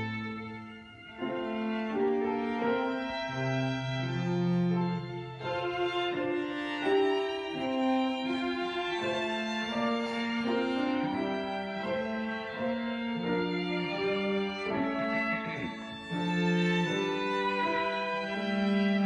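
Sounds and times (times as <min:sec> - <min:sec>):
classical chamber music: 0:00.0 - 0:19.0.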